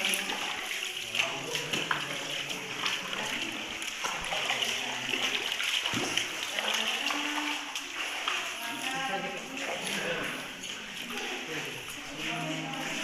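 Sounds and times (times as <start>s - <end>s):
faint voices: 0.0s - 13.0s
water splashing: 0.0s - 13.0s.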